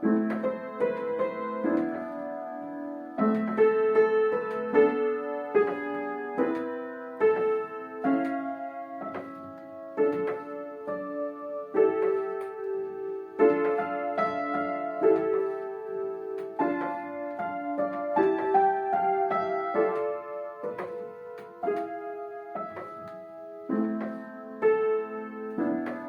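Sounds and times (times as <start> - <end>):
slow piano chords ringing: 0.0 - 26.0.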